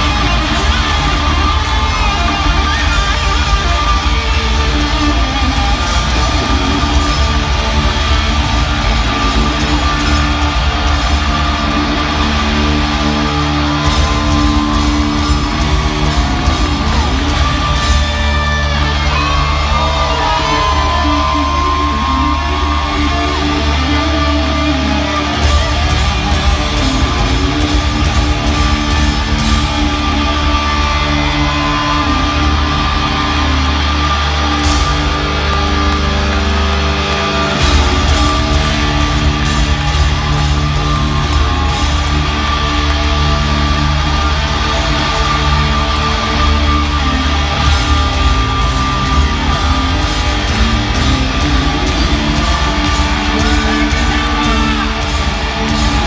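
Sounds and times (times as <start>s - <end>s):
hard rock music: 0.0s - 56.0s.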